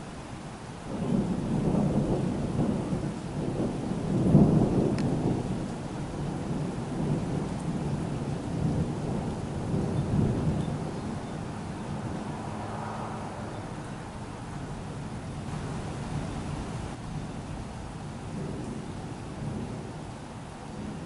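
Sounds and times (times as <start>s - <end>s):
rain hissing: 0.0s - 21.0s
rolling thunder: 0.8s - 21.0s.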